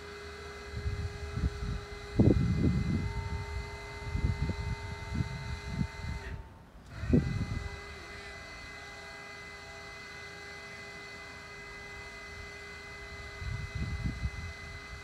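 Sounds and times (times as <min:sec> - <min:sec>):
hydraulic drive whine: 0:00.0 - 0:15.0.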